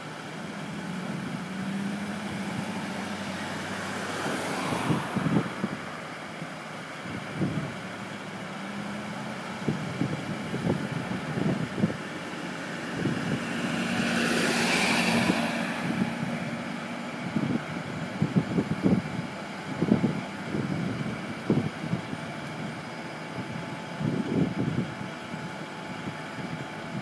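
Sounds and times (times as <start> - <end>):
truck engine running: 0.0 - 27.0
wind buffeting microphone: 0.8 - 27.0.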